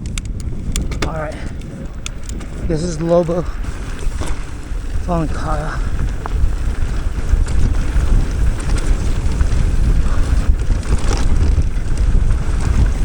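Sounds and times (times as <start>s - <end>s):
bike knocking over bumps: 0.0s - 13.0s
tyres on dirt: 0.0s - 13.0s
wind buffeting microphone: 0.0s - 13.0s.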